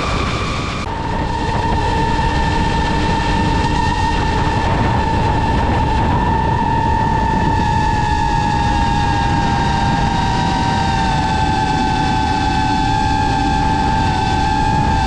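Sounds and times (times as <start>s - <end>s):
drone propellers whining: 0.0s - 15.0s
wind rumble on microphone: 0.0s - 15.0s.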